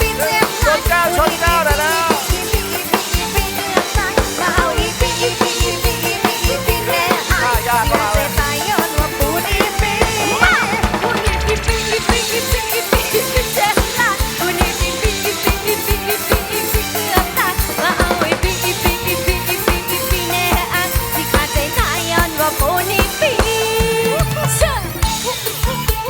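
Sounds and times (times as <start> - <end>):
bass: 0.0 - 26.0
drum kit beat: 0.0 - 26.0
wavering lead melody: 0.0 - 26.0.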